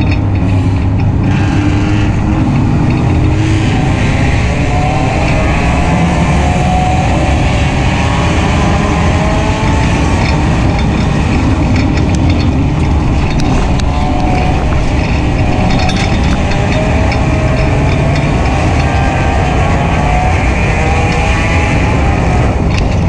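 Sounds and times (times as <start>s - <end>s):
race car engine under load: 0.0s - 23.0s
sharp clicks and rattles: 0.0s - 23.0s.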